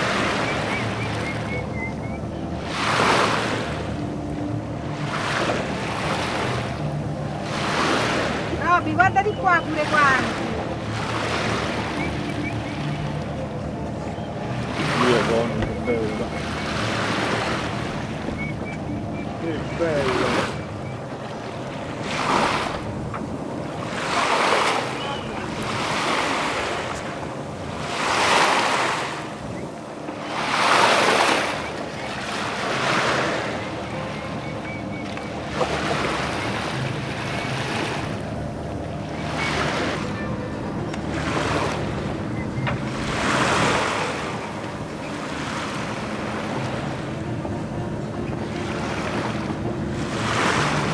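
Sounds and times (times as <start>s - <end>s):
water splashing along boat hull: 0.0s - 50.9s.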